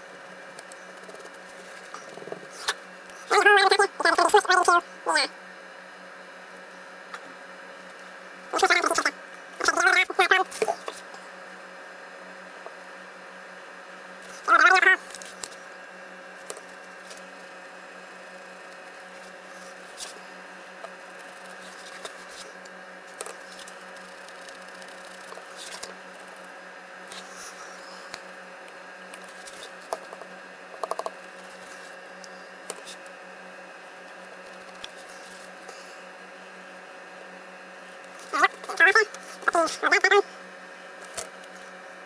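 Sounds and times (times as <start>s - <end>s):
room hum: 0.0s - 42.0s.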